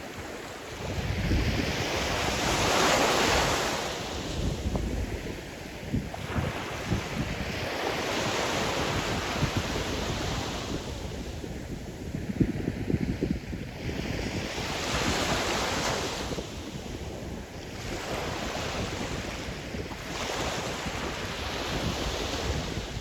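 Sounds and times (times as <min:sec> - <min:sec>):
waves breaking and washing up: 0:00.0 - 0:23.0
wind buffeting microphone: 0:00.0 - 0:23.0.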